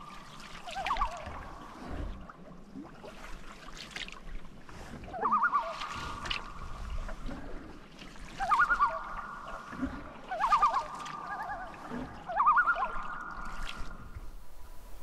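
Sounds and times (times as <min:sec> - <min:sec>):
paddle strokes in water: 0:00.0 - 0:15.0.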